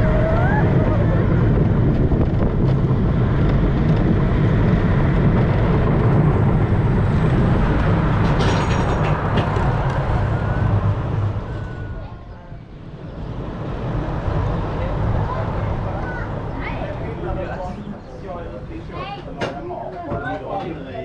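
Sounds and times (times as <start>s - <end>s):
roller coaster rattling: 0.0s - 20.9s
roller coaster wheels rumbling: 0.0s - 21.0s.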